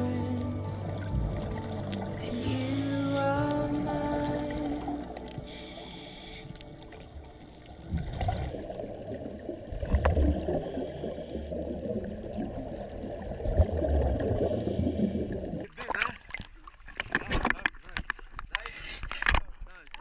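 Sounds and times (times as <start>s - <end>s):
underwater bubbling and gurgling: 0.0s - 20.0s.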